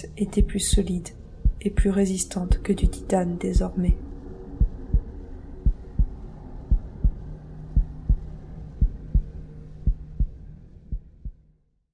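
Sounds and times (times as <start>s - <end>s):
low steady drone: 0.0s - 11.4s
low hum: 0.0s - 11.5s
heartbeat thumps: 0.2s - 4.0s, 4.6s - 11.4s.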